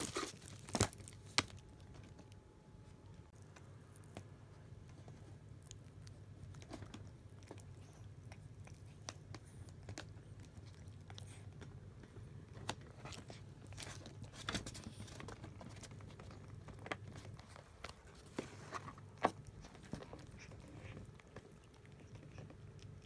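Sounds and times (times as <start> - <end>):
cats chewing treat: 0.0 - 23.0.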